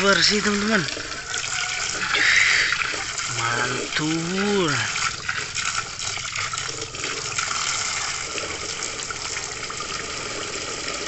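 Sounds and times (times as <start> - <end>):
water splashing on plastic toy: 0.0 - 11.0.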